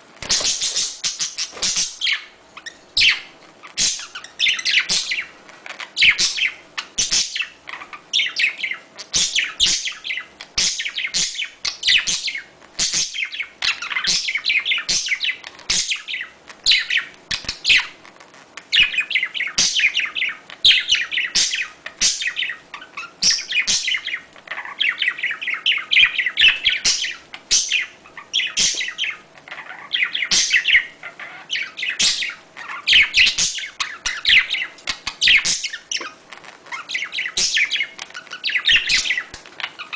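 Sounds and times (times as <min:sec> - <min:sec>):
budgerigars chattering: 0:00.3 - 0:18.0, 0:18.7 - 0:39.9.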